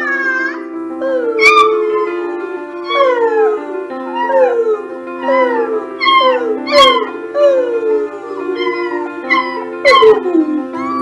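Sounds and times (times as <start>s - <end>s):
background music: 0.0s - 11.0s
man howling: 1.0s - 11.0s
puppy howling: 1.0s - 11.0s.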